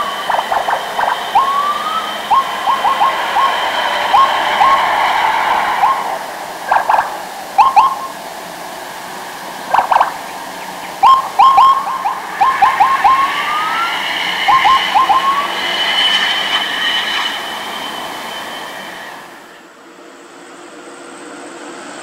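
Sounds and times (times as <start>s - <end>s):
police siren chirps and sweep: 0.0s - 19.4s.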